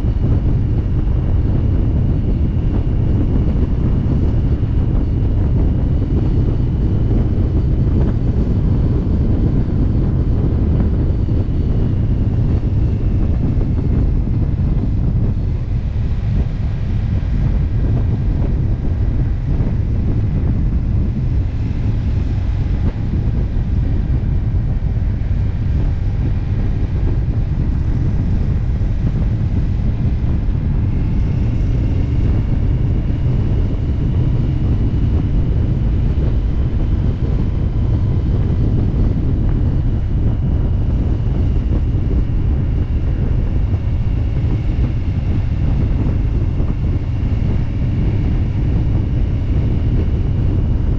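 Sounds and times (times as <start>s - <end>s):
motorcycle engine and road noise: 0.0s - 50.9s
wind buffeting microphone: 0.0s - 50.9s.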